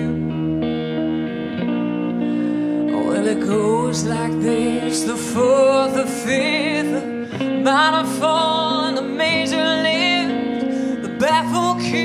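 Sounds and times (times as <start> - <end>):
person singing with vibrato: 0.0 - 0.6, 2.3 - 12.0
bass guitar: 0.0 - 12.0
electric guitar: 0.0 - 12.0.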